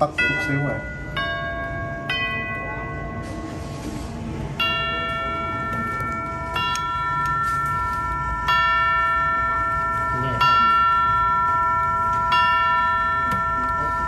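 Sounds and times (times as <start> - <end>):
tubular clock chimes: 0.0 - 3.7, 4.5 - 14.0.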